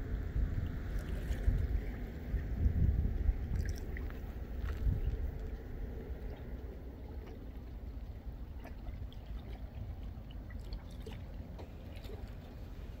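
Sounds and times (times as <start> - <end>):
low wind rumble on microphone: 0.0 - 13.0.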